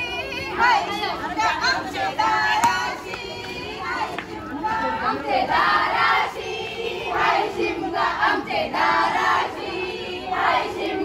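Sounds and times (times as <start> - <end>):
women singing folk song in chorus: 0.0 - 11.0.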